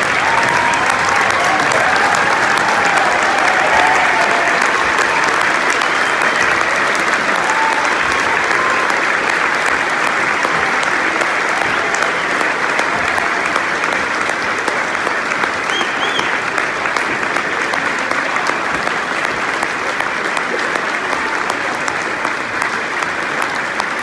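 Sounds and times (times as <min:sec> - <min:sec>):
crowd calling out: 0:00.0 - 0:22.4
audience applauding: 0:00.0 - 0:24.0.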